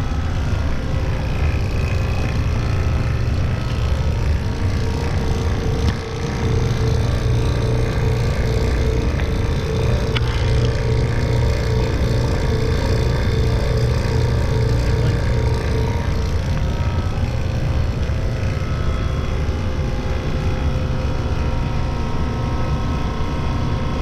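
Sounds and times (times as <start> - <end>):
machinery deep low hum: 0.0 - 24.0
mid-pitched machine tone: 0.0 - 24.0.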